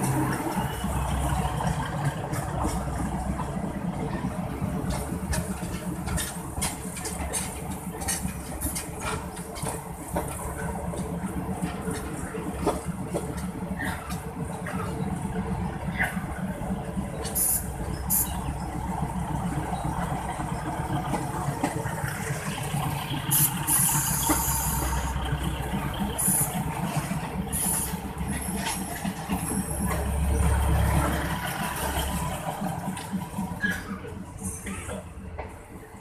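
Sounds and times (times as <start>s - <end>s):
diesel railcar engine: 0.0s - 36.0s
train wheels rumbling on track: 0.0s - 36.0s.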